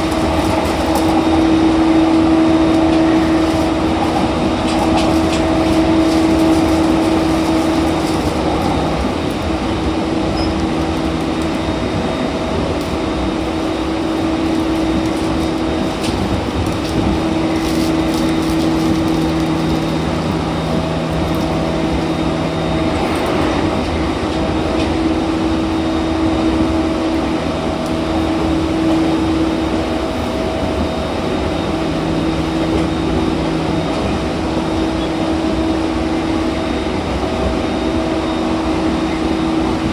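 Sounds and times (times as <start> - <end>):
rail and wheel rumble: 0.0 - 39.9
train drive equipment hum: 0.0 - 39.9.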